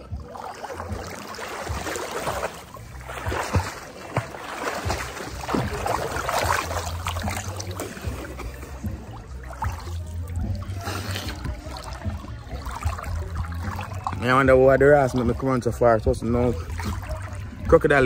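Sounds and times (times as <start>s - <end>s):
low rumble of water: 0.0s - 18.0s
water splashing and sloshing: 0.0s - 18.0s.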